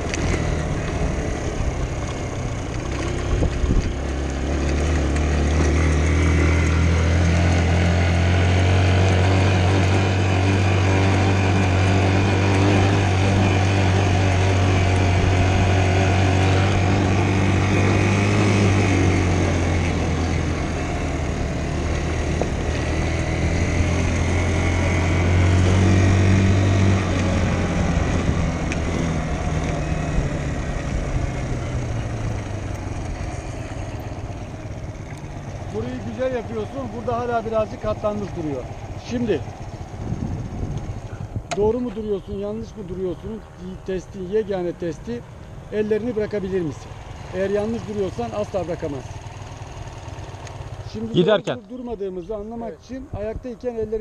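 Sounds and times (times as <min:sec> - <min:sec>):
dirt bike engine revving: 0:00.0 - 0:52.6.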